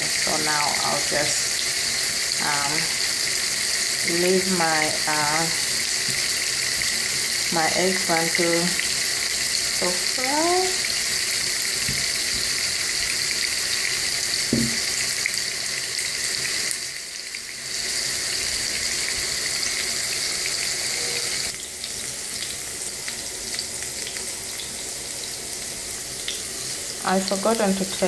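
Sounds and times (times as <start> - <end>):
eggplant sizzling in oil: 0.0 - 28.0.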